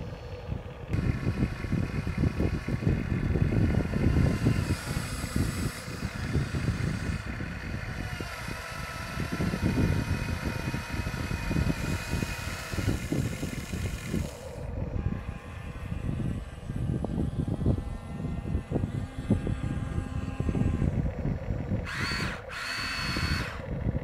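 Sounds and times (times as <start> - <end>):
small electric motors whining: 0.0 - 24.0
wind buffeting microphone: 0.0 - 24.0.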